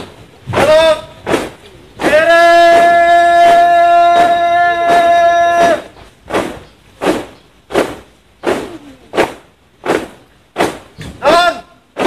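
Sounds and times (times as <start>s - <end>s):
boots stamping in unison: 0.0s - 12.0s.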